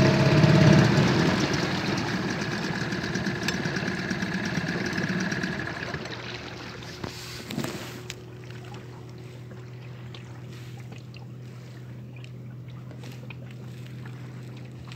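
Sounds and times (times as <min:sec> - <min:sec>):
boat motor idling: 0:00.0 - 0:14.9.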